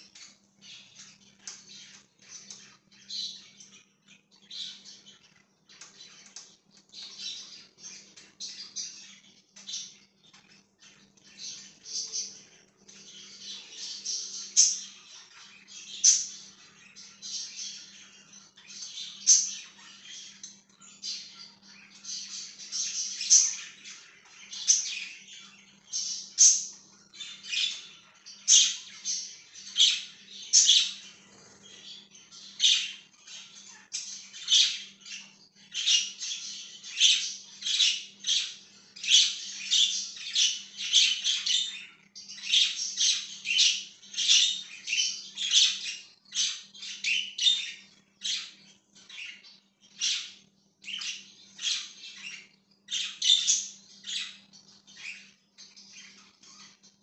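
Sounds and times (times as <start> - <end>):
budgies chirping: 0.0 - 57.0.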